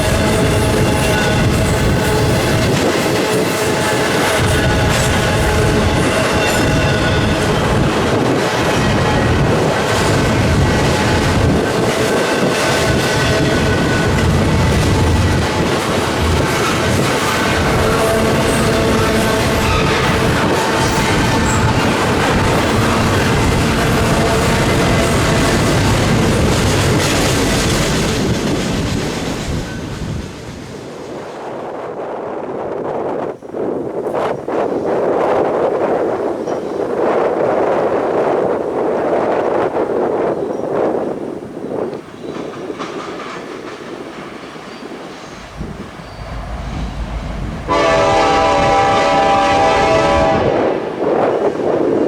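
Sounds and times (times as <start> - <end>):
freight train rumbling on rails: 0.0 - 52.0
wind hitting microphone: 0.0 - 52.0.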